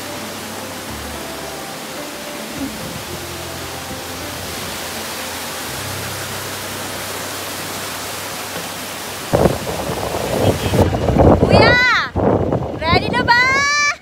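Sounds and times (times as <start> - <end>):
steady rushing noise: 0.0 - 13.8.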